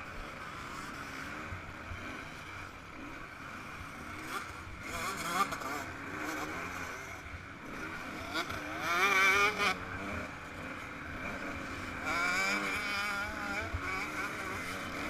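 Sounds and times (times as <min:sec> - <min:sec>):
two-stroke engine revving: 0:00.2 - 0:15.0.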